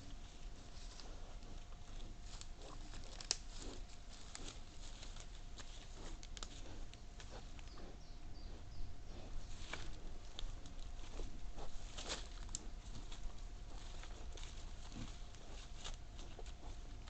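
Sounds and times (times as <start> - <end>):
faint steady hum: 0.0 - 17.0
wild boars rooting and chewing: 0.0 - 17.0.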